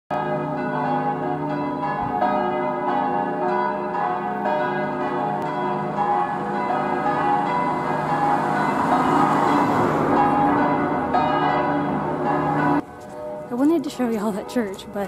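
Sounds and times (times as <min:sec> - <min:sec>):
church bells pealing: 0:00.1 - 0:15.0.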